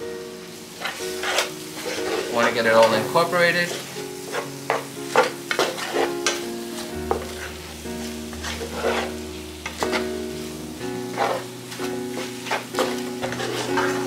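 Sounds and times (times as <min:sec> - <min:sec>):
apples sizzling in butter: 0:00.0 - 0:14.0
wooden spatula scraping pan: 0:00.7 - 0:14.0.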